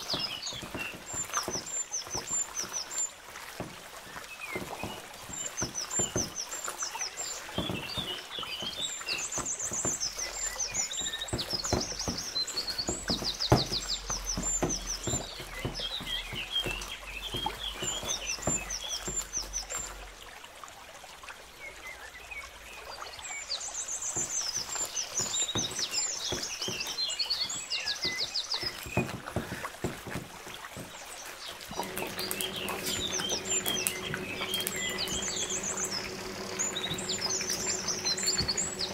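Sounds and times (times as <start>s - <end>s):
hand squelching wet batter: 0.0s - 20.1s, 24.0s - 38.9s
birds chirping: 0.0s - 20.4s, 21.5s - 38.9s.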